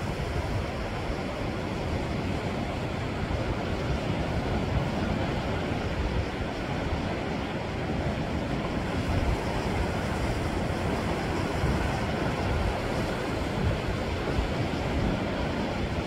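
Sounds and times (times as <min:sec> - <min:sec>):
surf on rocky shore: 0:00.0 - 0:16.0
wind buffeting microphone: 0:00.0 - 0:16.0.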